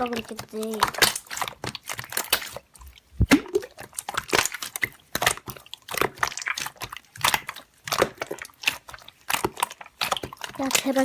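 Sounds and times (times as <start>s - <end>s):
slime squeezed crackling: 0.0s - 11.0s.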